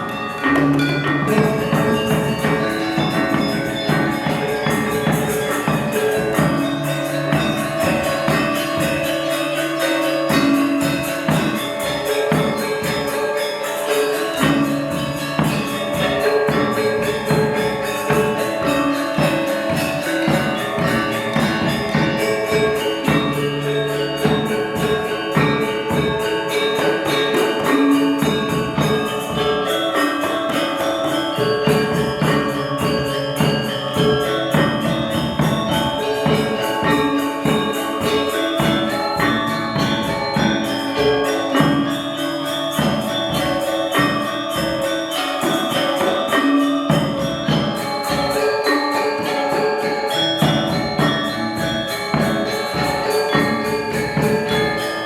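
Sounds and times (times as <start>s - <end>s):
bronze metallophones struck fast: 0.0s - 55.0s.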